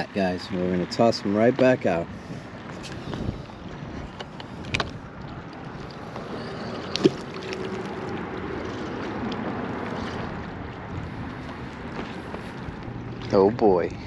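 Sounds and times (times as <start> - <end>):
water noise: 0.0 - 14.0
wind: 0.0 - 14.0.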